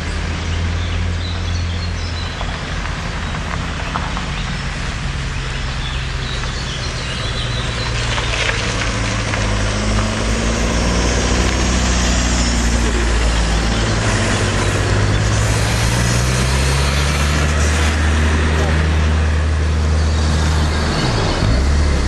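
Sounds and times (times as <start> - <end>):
vehicles driving slowly past: 0.0 - 22.0.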